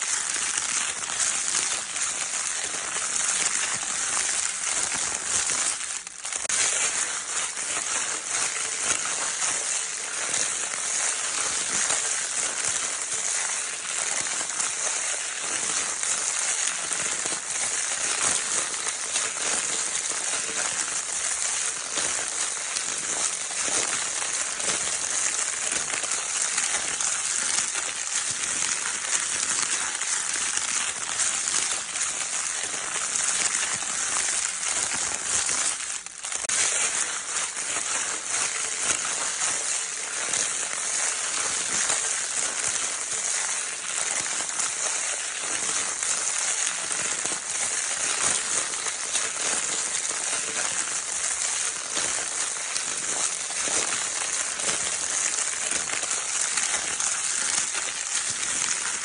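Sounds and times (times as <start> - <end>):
crinkle paper toy rustling: 0.0 - 59.0.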